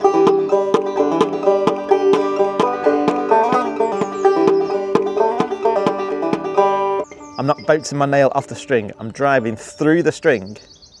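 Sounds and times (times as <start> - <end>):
banjo played clawhammer style: 0.0 - 9.8.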